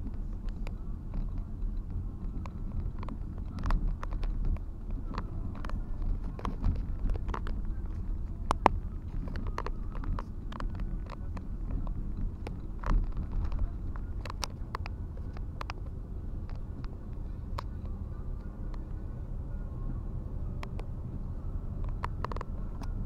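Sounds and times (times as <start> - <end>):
cab clicks and rattles: 0.0 - 19.6, 20.5 - 23.0
road and engine rumble in truck cab: 0.0 - 23.0.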